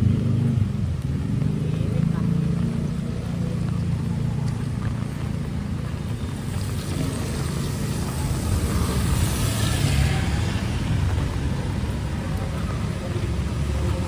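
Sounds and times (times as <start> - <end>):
traffic engine rumble: 0.0 - 14.0
tyres hissing on wet road: 0.2 - 14.0.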